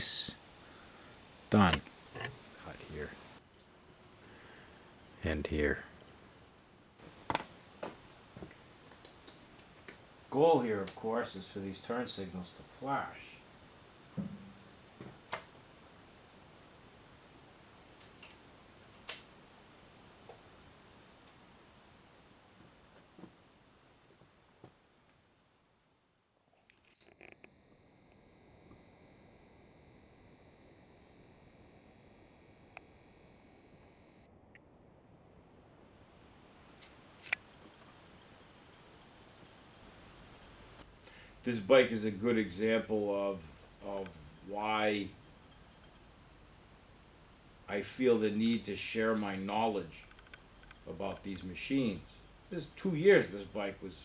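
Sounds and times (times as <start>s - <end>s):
faint high whine: 0.0s - 3.4s, 7.0s - 23.3s, 26.8s - 54.0s.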